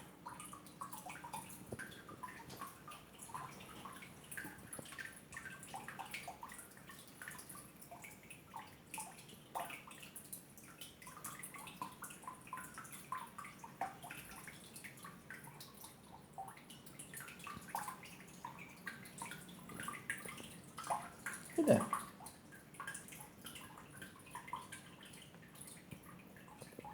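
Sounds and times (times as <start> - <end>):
small water plinks: 0.0 - 26.9
water dripping and gurgling: 0.0 - 26.9.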